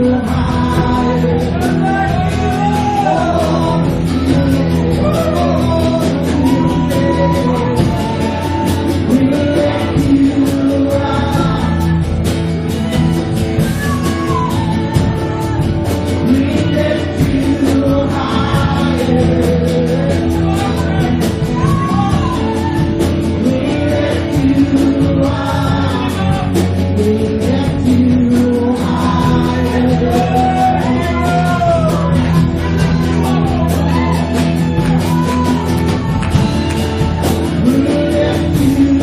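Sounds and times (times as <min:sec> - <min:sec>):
guitar: 0:00.0 - 0:39.0
live worship band music: 0:00.0 - 0:39.0
person singing: 0:00.0 - 0:39.0.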